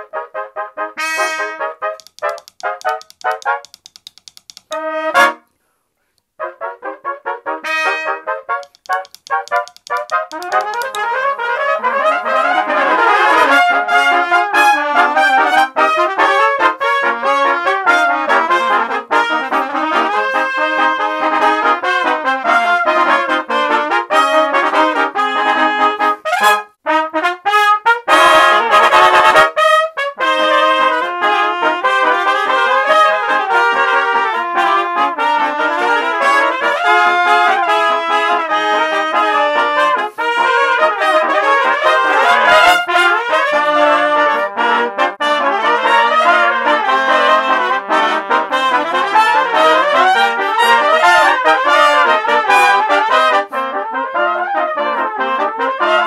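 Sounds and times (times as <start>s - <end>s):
trumpets playing in harmony: 0.0s - 3.8s, 4.6s - 5.5s, 6.4s - 56.0s.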